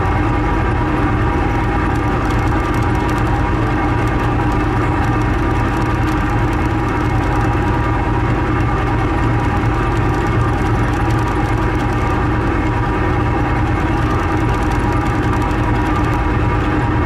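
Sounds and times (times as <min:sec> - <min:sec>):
ferry engines humming: 0:00.0 - 0:17.0.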